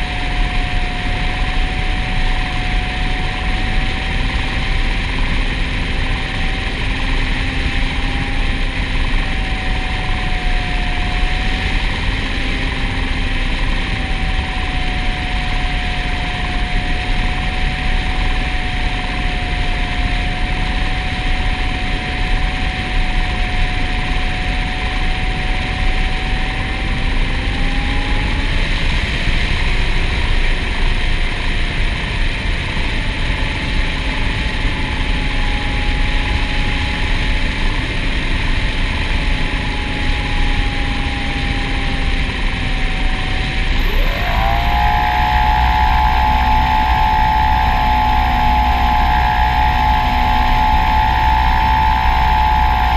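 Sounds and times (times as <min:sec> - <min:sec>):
quadcopter drone whine: 0:00.0 - 0:52.9.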